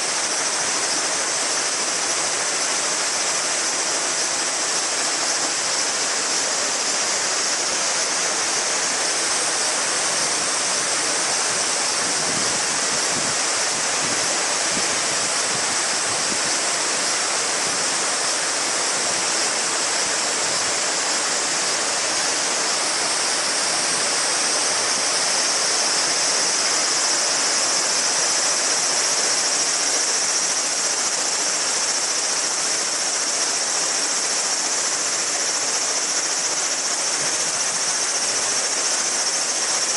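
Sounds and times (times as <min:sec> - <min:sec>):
cicadas chorus: 0:00.0 - 0:39.9.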